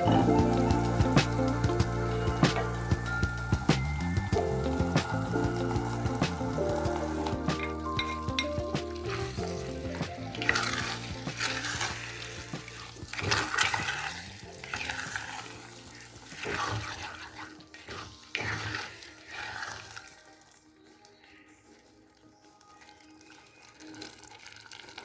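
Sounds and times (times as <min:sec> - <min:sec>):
food stirred and scraped in a pan: 0:00.0 - 0:25.0
light sizzling: 0:00.0 - 0:25.0
soft background music: 0:00.0 - 0:25.0.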